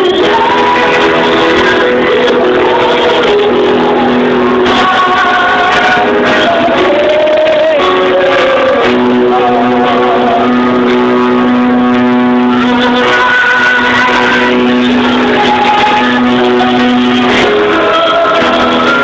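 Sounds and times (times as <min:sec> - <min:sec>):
electric guitar long held notes: 0:00.0 - 0:19.0
voices singing: 0:00.0 - 0:19.0.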